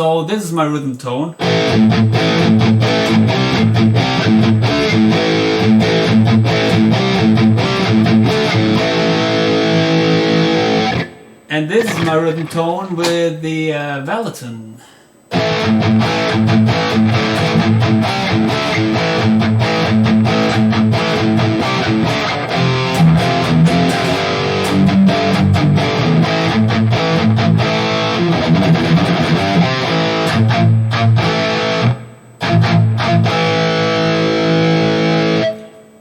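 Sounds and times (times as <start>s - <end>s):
distorted electric guitar riff: 1.4s - 12.6s, 15.3s - 36.0s.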